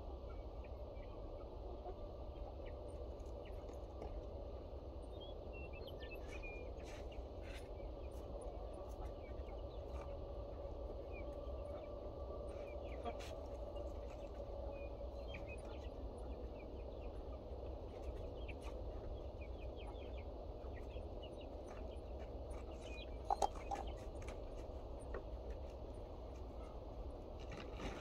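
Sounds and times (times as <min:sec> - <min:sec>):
birds chirping: 0:00.3 - 0:27.2.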